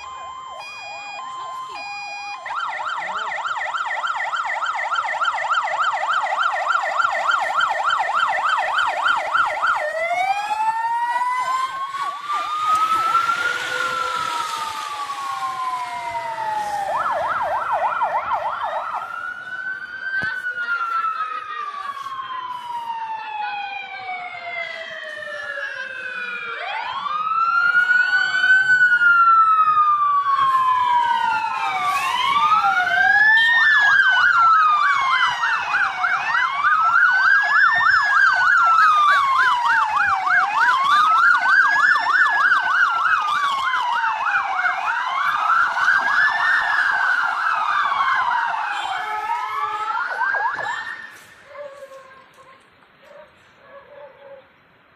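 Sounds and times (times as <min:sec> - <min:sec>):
fast yelp siren: 0:00.0 - 0:52.4
wailing siren: 0:00.0 - 0:52.6.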